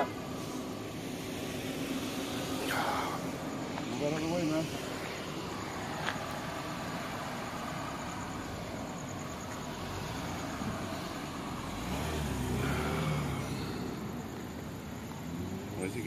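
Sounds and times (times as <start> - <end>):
car engine passing slowly: 0.0 - 16.0.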